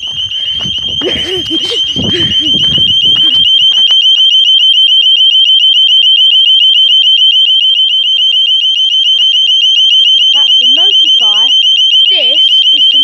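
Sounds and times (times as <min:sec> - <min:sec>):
high-pitched warbling alarm siren: 0:00.0 - 0:13.0.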